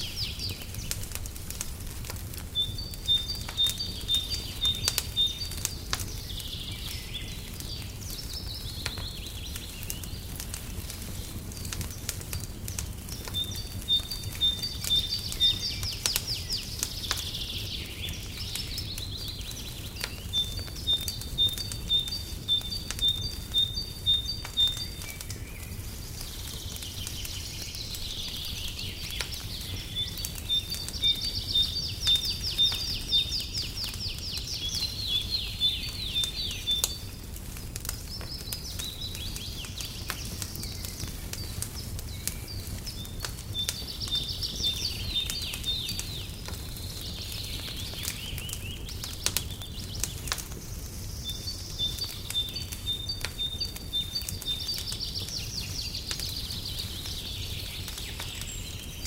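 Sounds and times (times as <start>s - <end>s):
fireplace crackling: 0.0s - 59.0s
songbird chirping and trilling: 0.0s - 59.0s.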